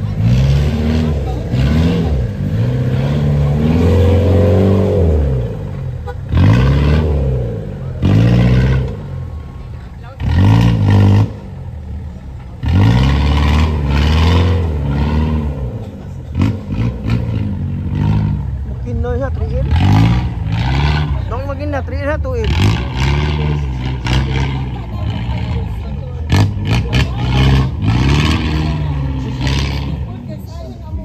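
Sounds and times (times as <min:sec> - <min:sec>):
vehicle engine revving: 0:00.0 - 0:31.0.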